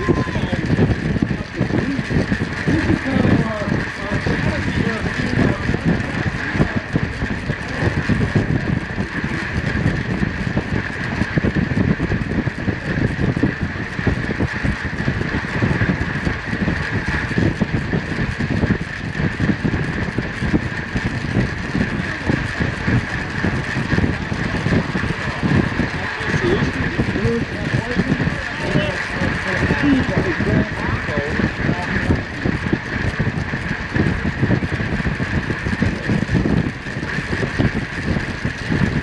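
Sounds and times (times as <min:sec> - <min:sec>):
steady high hum: 0:00.0 - 0:39.0
wind buffeting microphone: 0:00.0 - 0:39.0.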